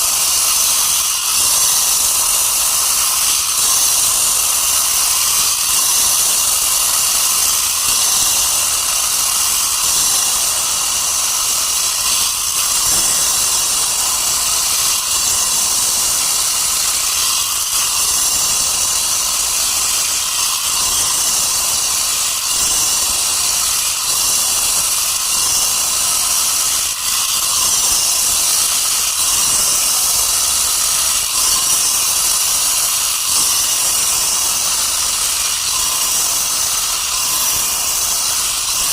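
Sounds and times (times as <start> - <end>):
power saw cutting stone: 0.0 - 38.9.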